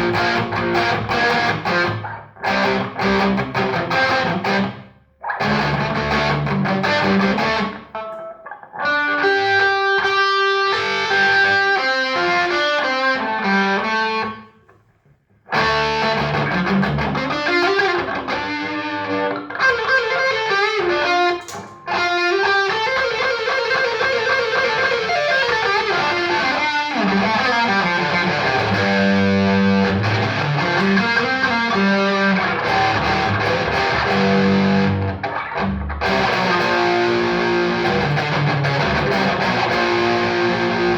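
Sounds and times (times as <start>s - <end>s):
distorted electric guitar: 0.0s - 14.5s, 15.4s - 40.9s.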